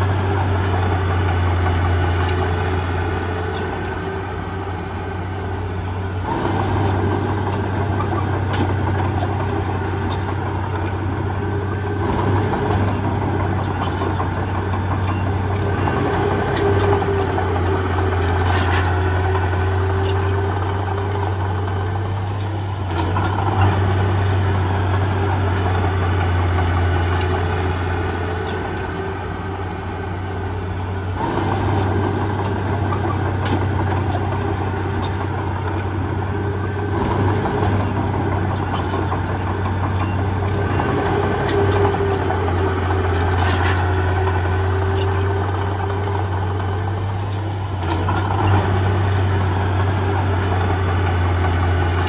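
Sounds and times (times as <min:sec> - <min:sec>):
heavy diesel engine running: 0:00.0 - 0:52.0
light clicks and clanks: 0:05.8 - 0:29.1, 0:30.7 - 0:52.0.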